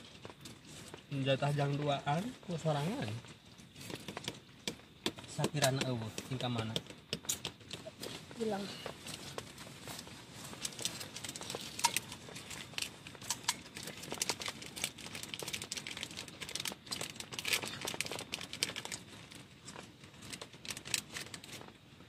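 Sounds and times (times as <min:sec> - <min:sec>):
plastic crinkling and rustling: 0:00.0 - 0:22.0.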